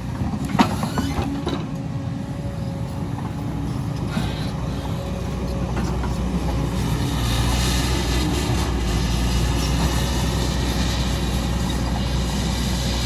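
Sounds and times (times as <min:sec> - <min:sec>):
excavator diesel engine rumbling: 0:00.0 - 0:13.0.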